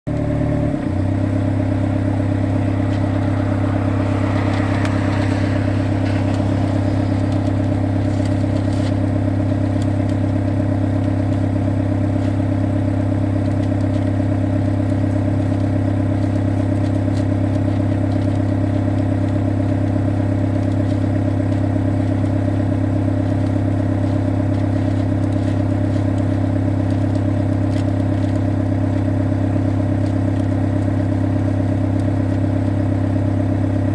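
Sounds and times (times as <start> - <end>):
diesel engine running steadily: 0.1 - 33.9
faint clicks and clatters: 2.7 - 32.9.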